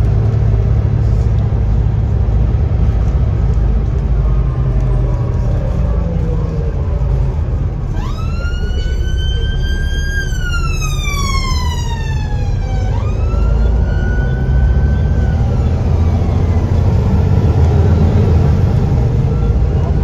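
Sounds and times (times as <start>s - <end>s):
bus engine rumble: 0.0s - 20.0s
emergency siren wailing: 3.1s - 20.0s.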